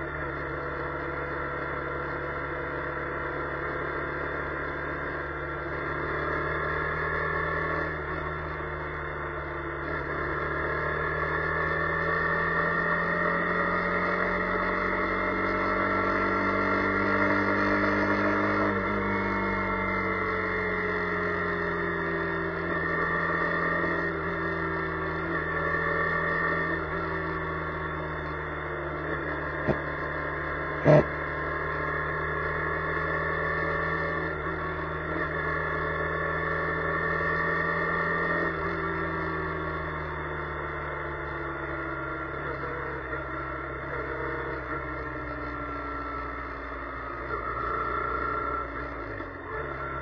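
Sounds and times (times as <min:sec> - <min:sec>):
car engine hum inside car: 0:00.0 - 0:50.0.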